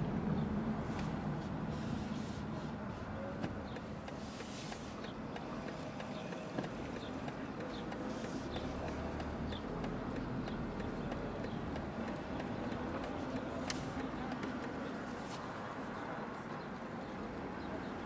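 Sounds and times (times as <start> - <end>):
car and traffic rumble: 0.0 - 18.0.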